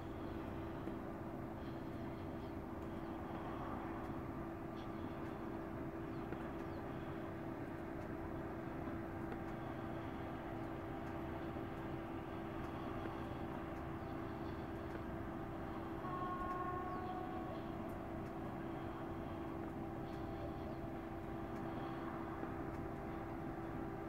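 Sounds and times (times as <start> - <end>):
factory machinery hum: 0.0 - 24.0.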